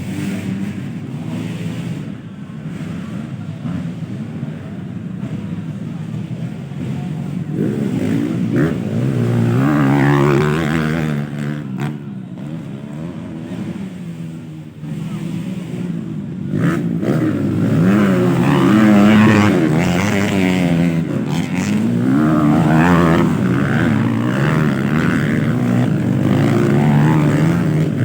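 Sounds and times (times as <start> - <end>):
motocross bikes racing past: 0.0 - 28.0.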